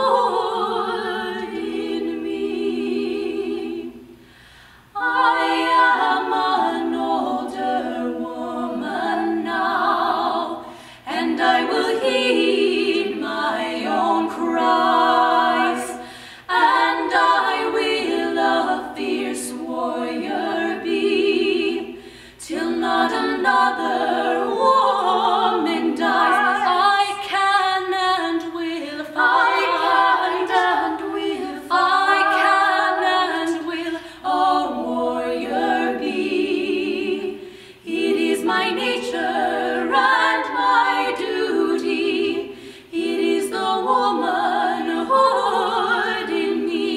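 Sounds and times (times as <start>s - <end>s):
women singing a cappella: 0.0s - 46.9s.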